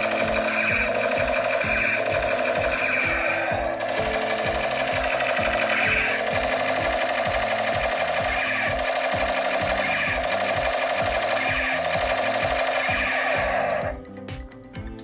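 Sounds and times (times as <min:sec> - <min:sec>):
fast electronic music: 0:00.0 - 0:14.4.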